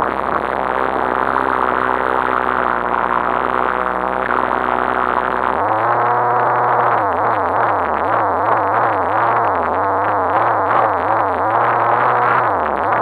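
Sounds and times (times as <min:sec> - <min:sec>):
muffled rc car motor running: 0:00.0 - 0:13.0.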